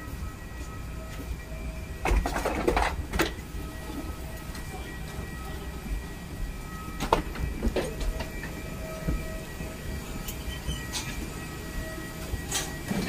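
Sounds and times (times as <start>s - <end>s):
footsteps of people walking: 0.0s - 13.0s.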